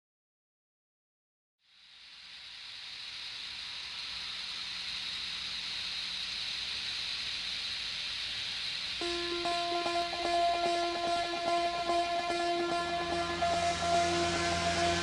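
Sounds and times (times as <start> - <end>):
white noise hiss: 1.6 - 15.0.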